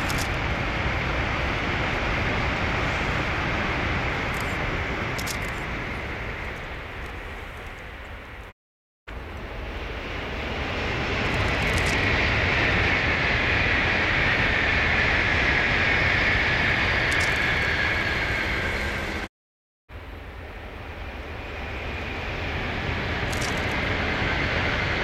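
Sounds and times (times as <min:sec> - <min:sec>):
high-speed train passing: 0:00.0 - 0:08.5, 0:09.1 - 0:19.3, 0:19.9 - 0:25.0.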